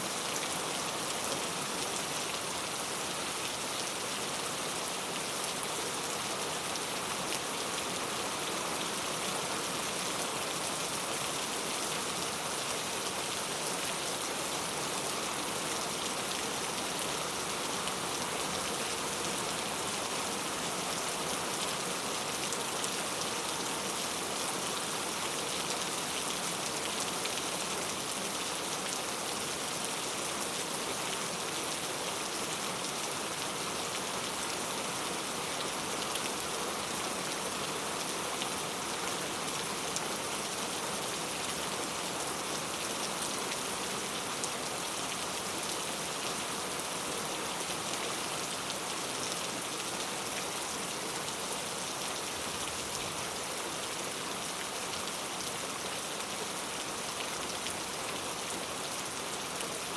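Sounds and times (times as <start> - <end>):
heavy rain on street: 0.0 - 59.9.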